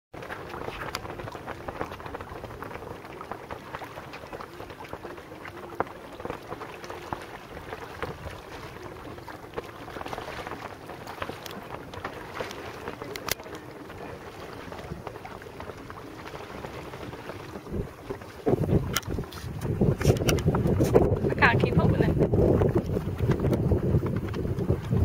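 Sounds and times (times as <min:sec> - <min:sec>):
water lapping and splashing: 0:00.1 - 0:25.0
wind: 0:00.1 - 0:25.0.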